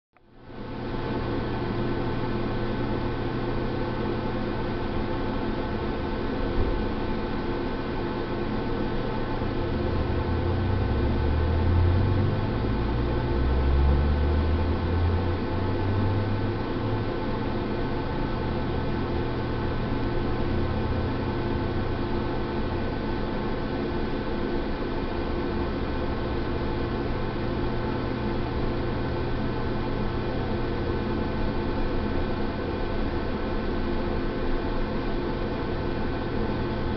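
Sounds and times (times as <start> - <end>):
electrical hum: 0.2 - 36.9
fan-like drone: 0.2 - 36.9.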